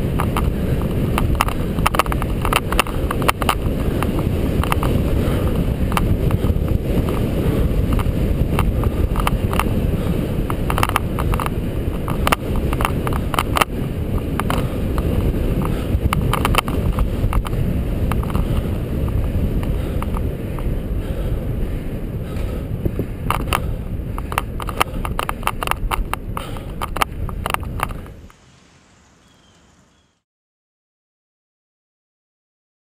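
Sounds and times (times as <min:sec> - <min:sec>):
sharp bicycle clicks: 0:00.0 - 0:28.4
wind rumble on microphone: 0:00.0 - 0:30.0
bicycle tyre noise: 0:00.0 - 0:30.2.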